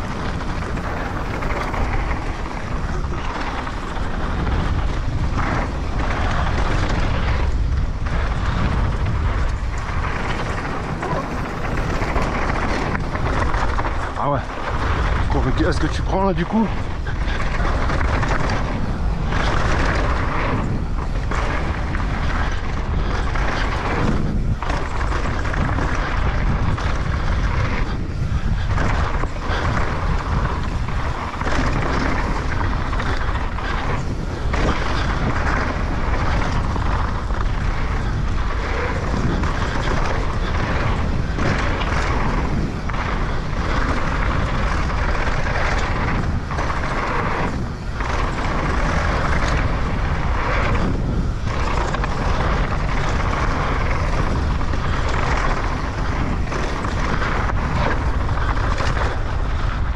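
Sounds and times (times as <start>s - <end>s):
bike trail noise: 0.0s - 59.9s
wind rushing: 0.0s - 59.9s.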